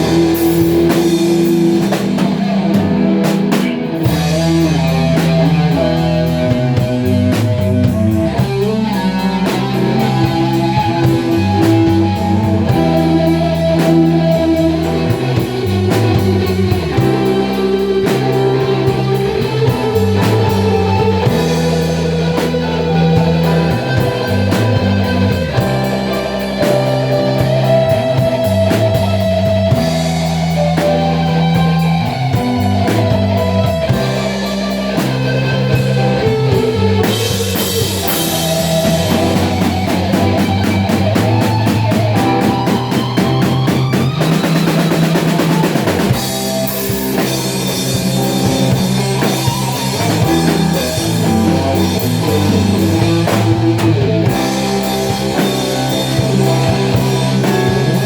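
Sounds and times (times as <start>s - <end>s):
bass guitar: 0.0s - 58.0s
drum hits and cymbals: 0.0s - 58.0s
drum kit: 0.0s - 58.0s
electric guitar: 0.0s - 58.0s.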